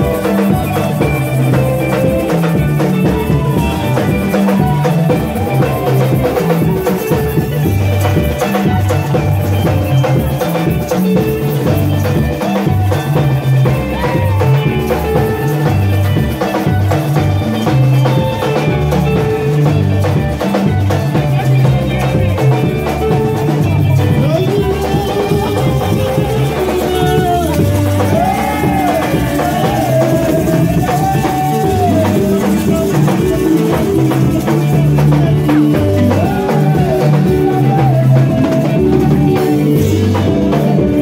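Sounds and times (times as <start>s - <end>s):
live band music: 0.0s - 41.0s.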